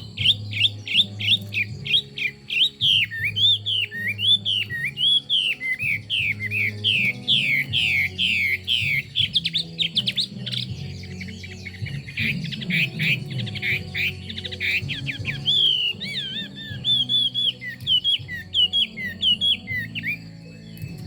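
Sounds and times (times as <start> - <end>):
songbird singing whistles: 0.0 - 21.0.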